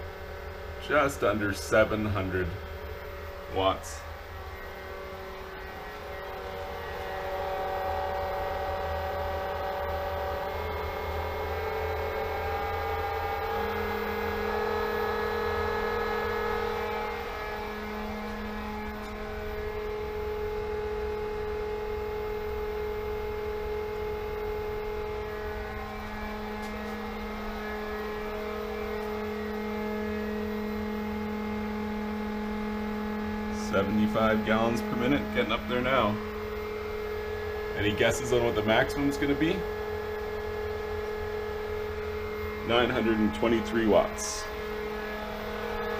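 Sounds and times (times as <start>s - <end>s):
deeper pump hum: 0.0s - 45.9s
pool pump motor whine and hum: 0.0s - 45.9s.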